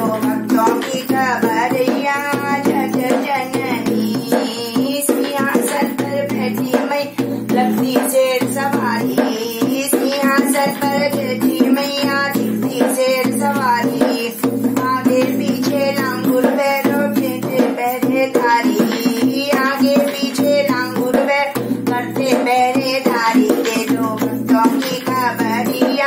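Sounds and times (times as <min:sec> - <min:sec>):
hand drum rhythm: 0:00.0 - 0:26.0
woman singing devotional song: 0:00.0 - 0:26.0.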